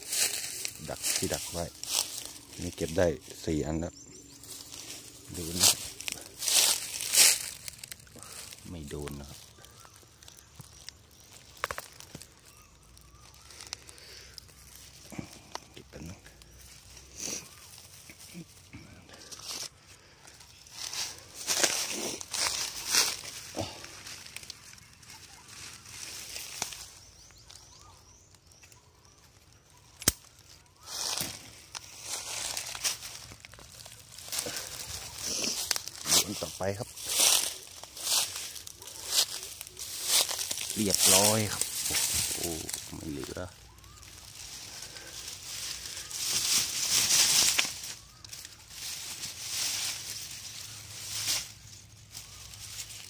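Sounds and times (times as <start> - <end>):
footsteps in dry leaves: 0.0 - 53.0.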